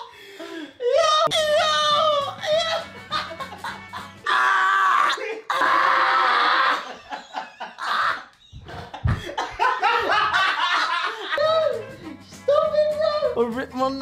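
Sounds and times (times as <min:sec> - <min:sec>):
men laughing: 0:00.0 - 0:13.0.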